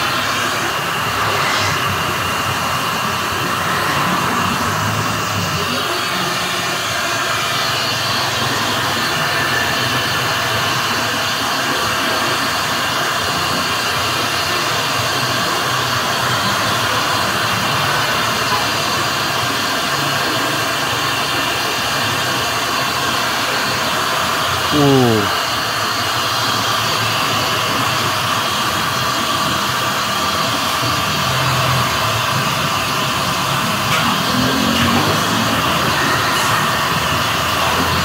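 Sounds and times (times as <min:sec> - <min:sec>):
gas burner roaring: 0:00.0 - 0:38.0.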